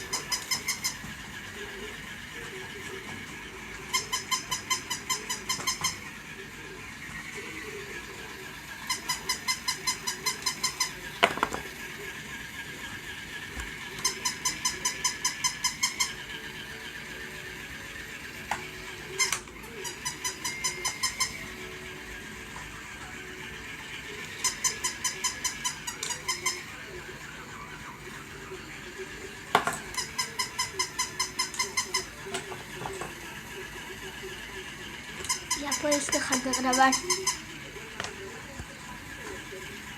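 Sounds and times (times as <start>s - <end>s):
toy motor whirring: 0.0s - 39.9s.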